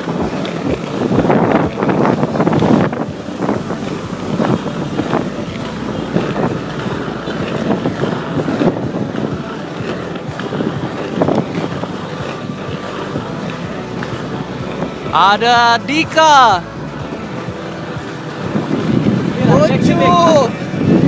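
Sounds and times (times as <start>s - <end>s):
skate wheels rolling on asphalt: 0.0s - 21.0s
wind buffeting microphone: 0.0s - 21.0s.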